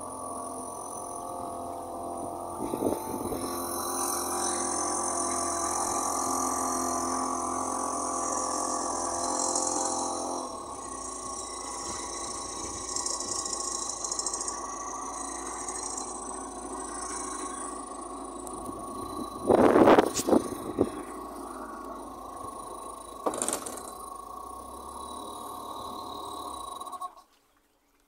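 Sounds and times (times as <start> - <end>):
boat engine running: 0.0 - 27.3.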